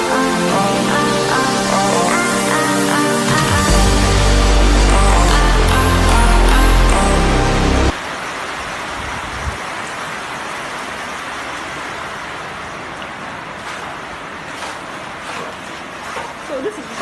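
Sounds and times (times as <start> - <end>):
heavy rain falling: 0.0 - 15.2.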